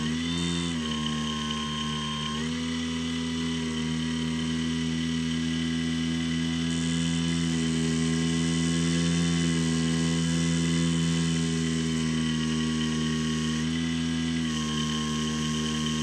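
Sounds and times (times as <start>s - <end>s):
electric motor and propeller whine: 0.0s - 16.0s.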